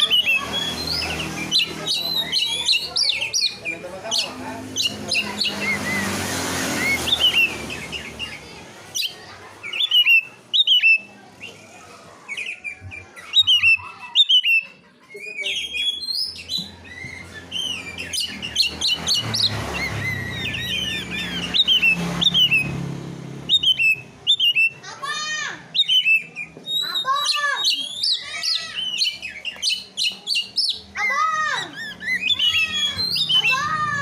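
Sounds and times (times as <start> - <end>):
songbird chirping: 0.0 - 34.0.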